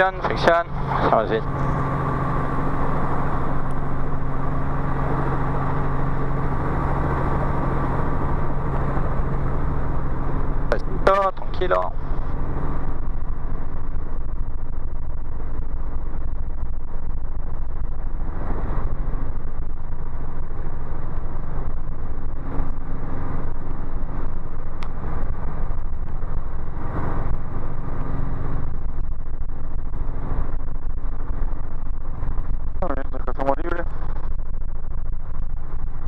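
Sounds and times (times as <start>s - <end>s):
helicopter engine and rotor drone: 0.0s - 36.0s.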